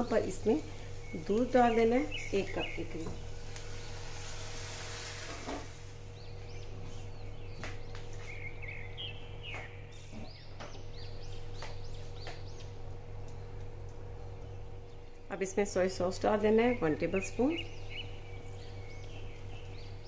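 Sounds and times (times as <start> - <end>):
birds chirping: 0.0 - 4.5, 5.6 - 20.0
steady low hum: 0.0 - 20.0.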